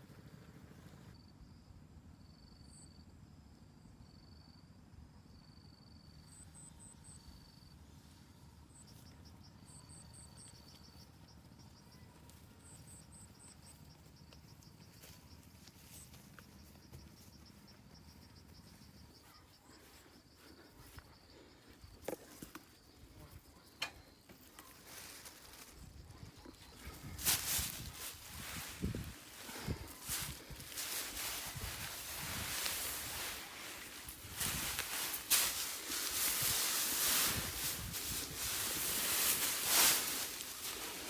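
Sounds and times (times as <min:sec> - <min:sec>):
insects chirping in trills: 0:01.1 - 0:41.0.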